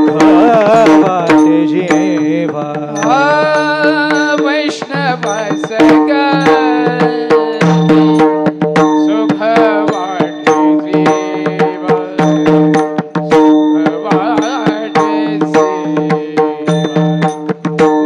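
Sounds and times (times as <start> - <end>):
man singing devotional song: 0.0 - 17.5
hand drum: 0.0 - 18.0
small hand cymbals: 0.0 - 18.0.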